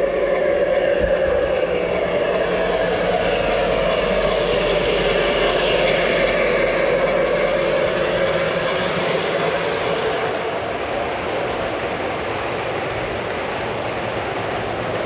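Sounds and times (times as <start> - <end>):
model train wheels rumbling on rail: 0.0 - 15.0.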